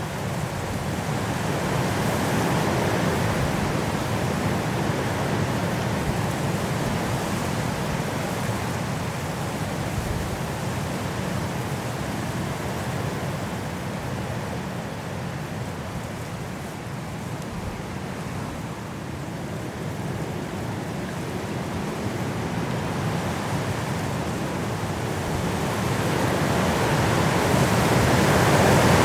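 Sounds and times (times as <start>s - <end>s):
strong wind through trees: 0.0s - 29.0s.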